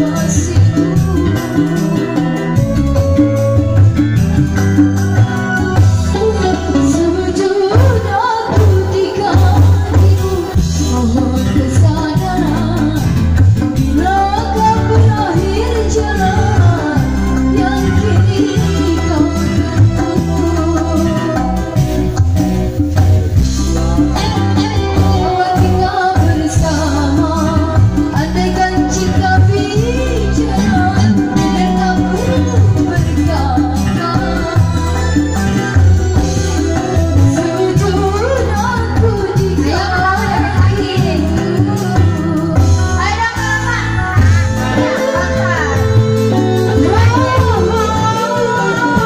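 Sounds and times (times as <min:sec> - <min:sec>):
bass: 0:00.0 - 0:49.0
hand drums: 0:00.0 - 0:49.0
keyboard: 0:00.0 - 0:49.0
live band music: 0:00.0 - 0:49.0
woman singing into a microphone: 0:00.0 - 0:49.0.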